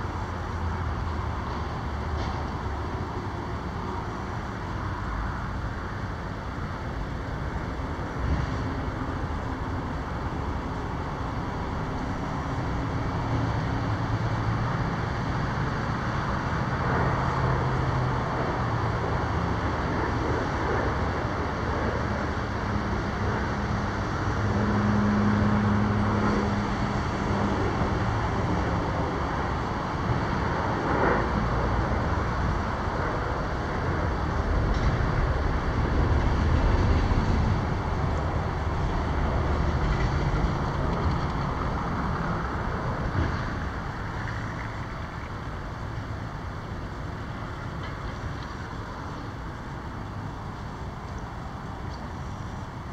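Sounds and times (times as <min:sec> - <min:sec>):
road traffic passing: 0:00.0 - 0:52.9.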